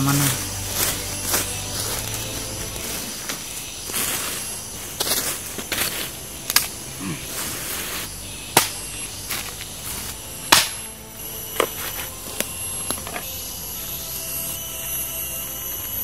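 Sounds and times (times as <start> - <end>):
twigs cracking: 0.0 - 13.5
dry leaves and twigs rustling: 0.0 - 16.0
insect drone: 0.0 - 16.0.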